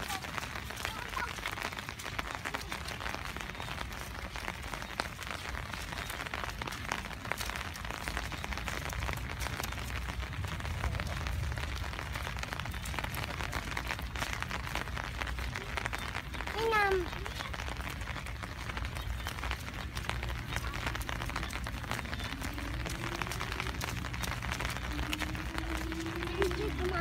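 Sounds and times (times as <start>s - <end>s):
rain patter: 0.0s - 27.0s.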